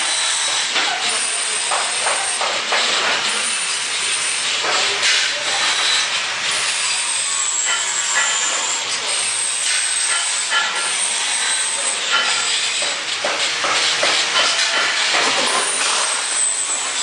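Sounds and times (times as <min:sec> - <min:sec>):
loud metalworking hiss: 0:00.0 - 0:17.0.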